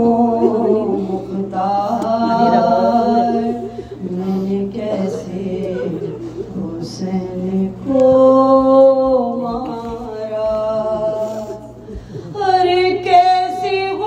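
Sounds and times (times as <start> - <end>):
person singing unaccompanied: 0.0 - 14.0.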